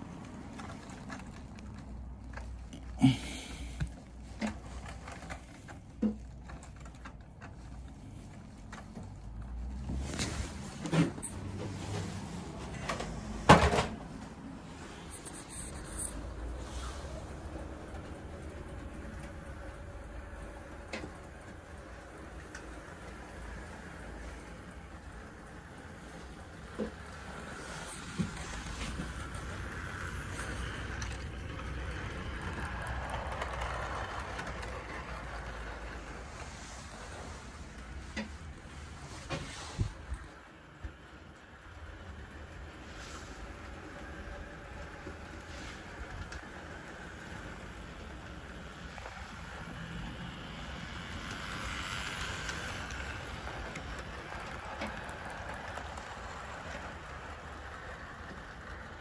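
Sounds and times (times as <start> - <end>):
model train running on track: 0.0 - 59.0.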